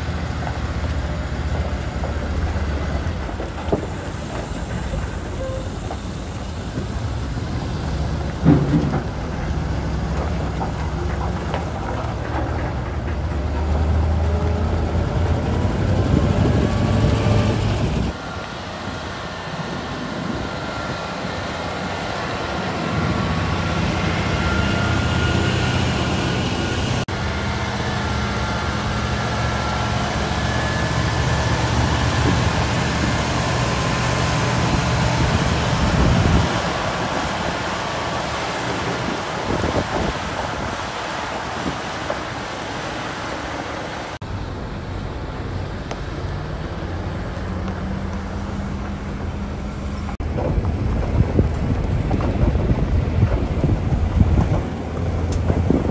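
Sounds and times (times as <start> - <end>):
diesel engine rumbling: 0.0 - 55.9.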